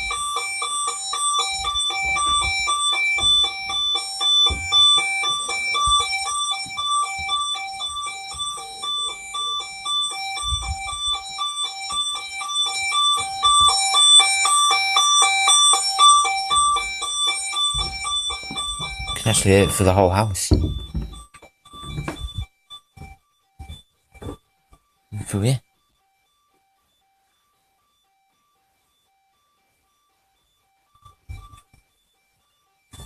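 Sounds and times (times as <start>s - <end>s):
burglar alarm beeping: 0.0s - 33.0s.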